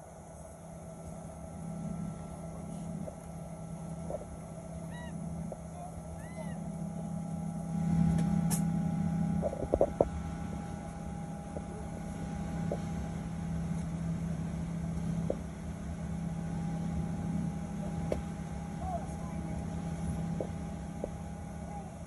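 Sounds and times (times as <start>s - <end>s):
aircraft cabin engine hum: 0.0s - 22.0s.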